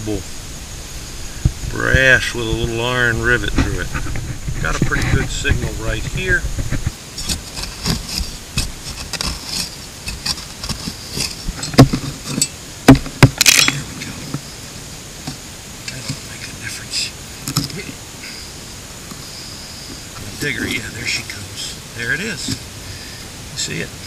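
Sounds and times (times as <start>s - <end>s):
rustling of dirt and leaves: 0.0s - 24.0s.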